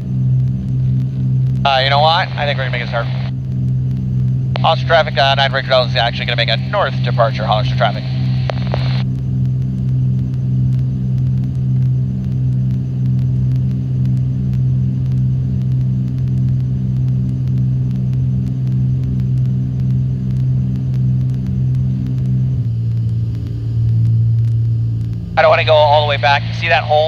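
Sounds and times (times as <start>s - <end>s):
airplane engines droning: 0.0s - 27.0s.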